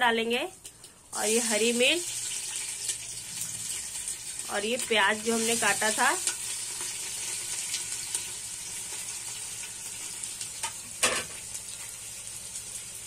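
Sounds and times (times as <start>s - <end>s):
onions sizzling in hot oil: 0.2s - 13.0s.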